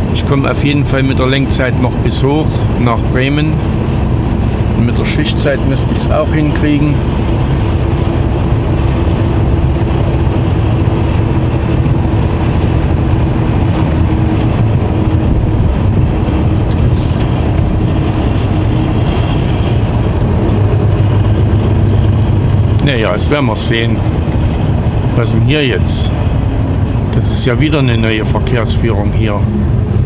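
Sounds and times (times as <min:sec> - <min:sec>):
lorry engine drone: 0:00.0 - 0:30.0
tyre and road noise: 0:00.0 - 0:30.0.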